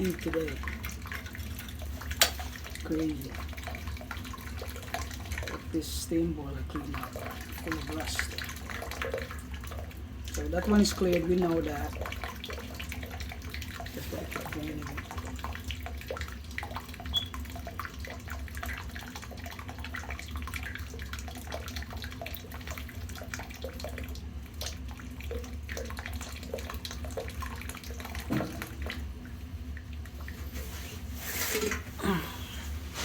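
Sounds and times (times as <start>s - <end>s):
water draining and splashing: 0.0s - 32.2s
constant low hum: 0.0s - 33.0s.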